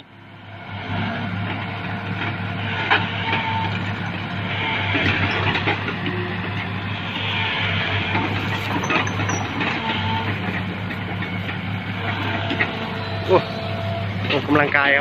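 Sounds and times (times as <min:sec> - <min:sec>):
excavator diesel engine running: 0:00.0 - 0:15.0
mechanical track clatter: 0:00.0 - 0:15.0.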